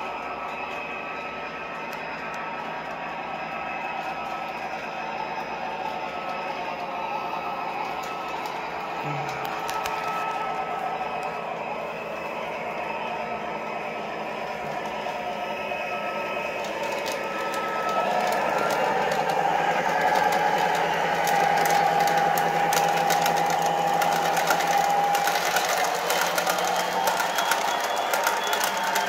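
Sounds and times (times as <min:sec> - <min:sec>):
model train motor whine: 0:00.0 - 0:29.0
wheels clicking over track: 0:00.0 - 0:29.0.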